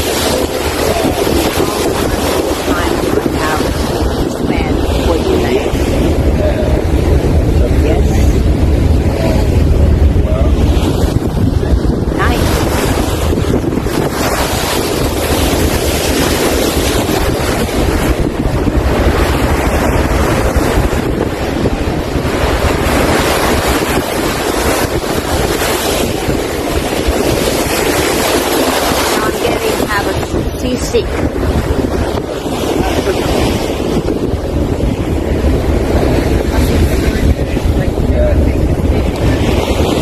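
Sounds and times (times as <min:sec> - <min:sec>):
water rushing along hull: 0:00.0 - 0:40.0
wind buffeting microphone: 0:00.0 - 0:40.0.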